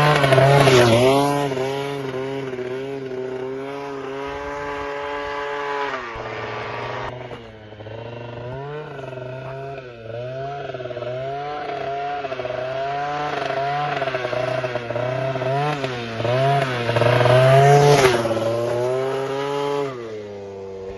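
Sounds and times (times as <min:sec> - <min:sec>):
scooter engine revving: 0:00.0 - 0:20.9.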